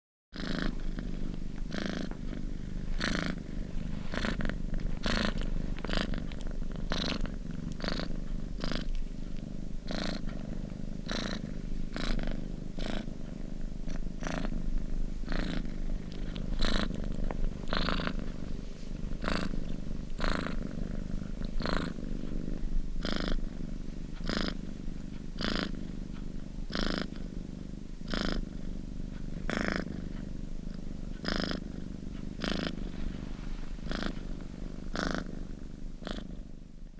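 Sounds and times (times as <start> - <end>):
cat purring: 0.4 - 36.9.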